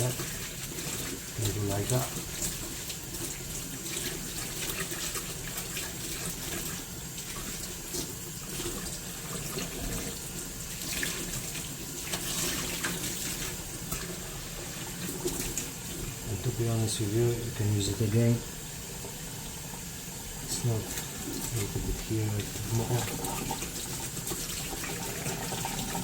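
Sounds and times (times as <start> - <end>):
tap water running: 0.0 - 26.0.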